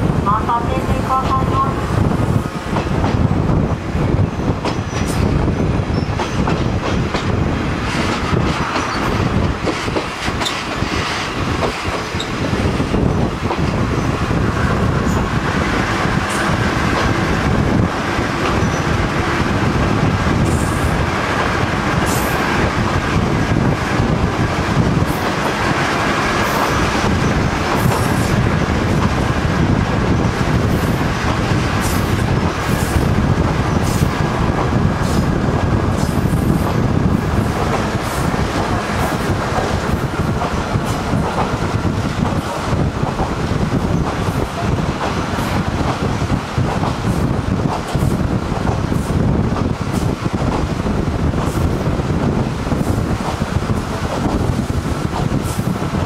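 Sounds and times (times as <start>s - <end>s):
diesel railcar rumbling: 0.0s - 56.0s.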